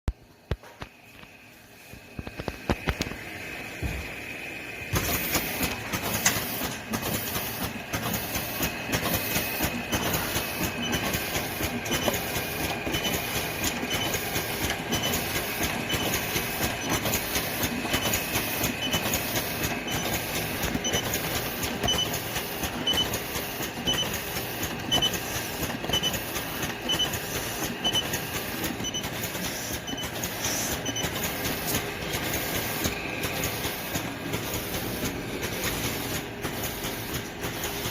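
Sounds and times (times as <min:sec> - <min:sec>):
packaging machine clattering: 0:05.0 - 0:37.9.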